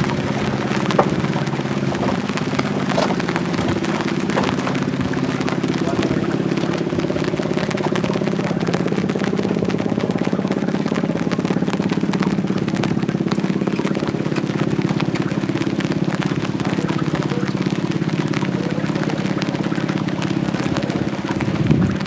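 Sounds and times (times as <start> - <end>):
engine running with pulsing: 0.0 - 22.0.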